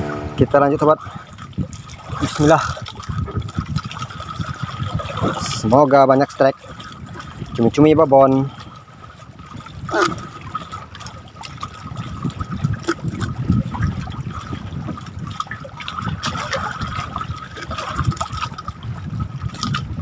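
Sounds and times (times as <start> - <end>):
waves lapping against wooden boat: 0.0 - 20.0.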